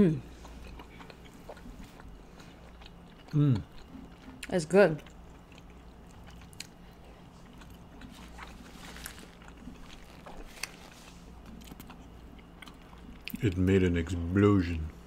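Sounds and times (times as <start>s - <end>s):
wet chewing: 0.0s - 13.7s.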